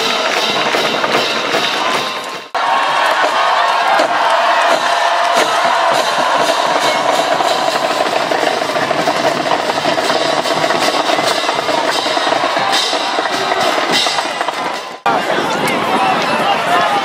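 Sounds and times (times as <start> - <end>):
snare drums: 0.0 - 15.1
school band playing: 0.0 - 15.2.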